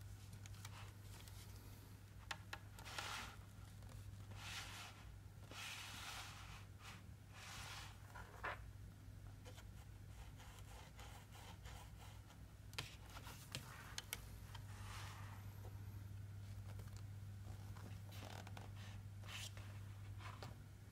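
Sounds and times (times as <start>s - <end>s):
low steady hum: 0.0s - 20.9s.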